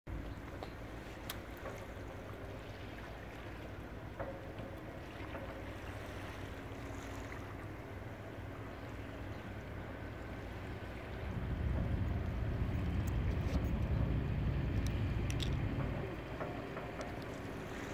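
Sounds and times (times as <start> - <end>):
wind: 0.0 - 17.9
ship diesel engine rumble: 0.1 - 17.9
water wash: 0.1 - 17.9.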